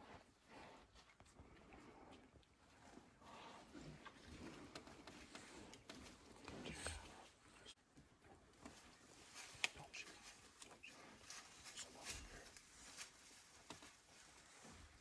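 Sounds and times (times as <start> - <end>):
small clicks and rustles: 1.0 - 7.3, 8.5 - 15.0.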